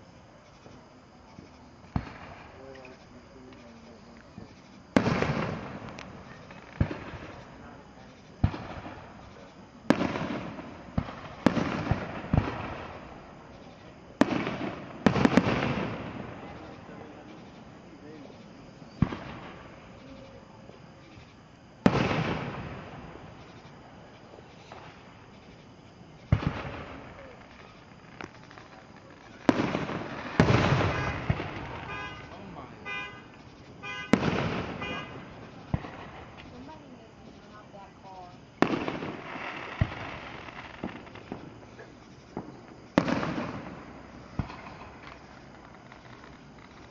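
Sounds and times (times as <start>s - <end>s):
fireworks bursting with sharp bangs: 0.0s - 46.9s.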